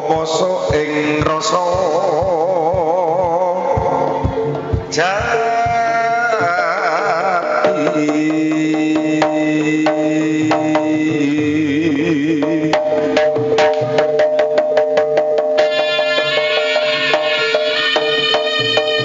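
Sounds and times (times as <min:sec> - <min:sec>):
hand drum strokes: 0:00.0 - 0:19.0.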